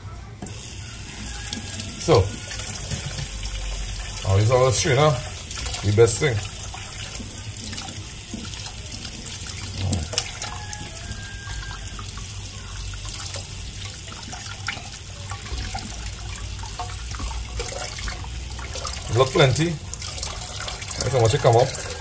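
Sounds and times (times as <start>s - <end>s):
tap water running into sink: 0.4s - 22.0s
small splashes: 0.6s - 22.0s.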